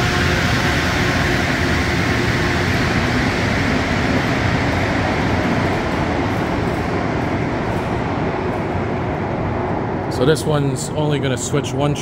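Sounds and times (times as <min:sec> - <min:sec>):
faint whine: 0:00.0 - 0:12.0
metro train running through station: 0:00.0 - 0:12.0.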